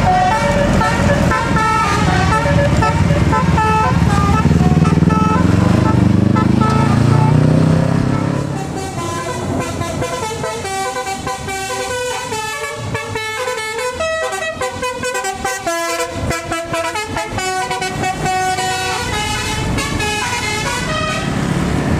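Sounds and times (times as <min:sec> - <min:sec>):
musical air horn tune: 0:00.0 - 0:21.4
heavy bus engine rumble: 0:00.0 - 0:21.9.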